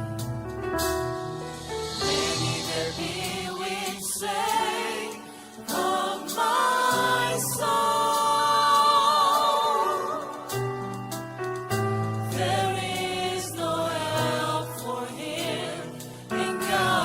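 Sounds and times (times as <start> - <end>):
gospel choir singing: 1.4 - 11.3, 12.1 - 17.0.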